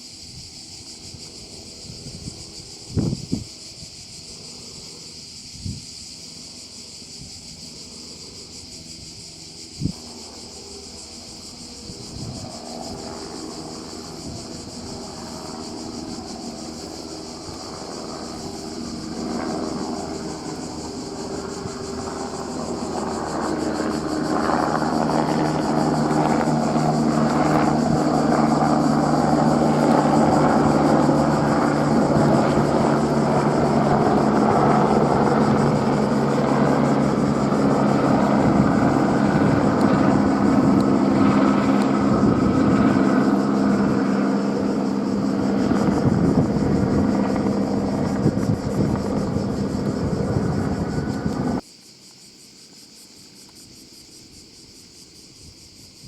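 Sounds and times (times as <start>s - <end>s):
helicopter rotor and turbine: 0.0s - 51.7s
insects chirring: 0.0s - 56.0s.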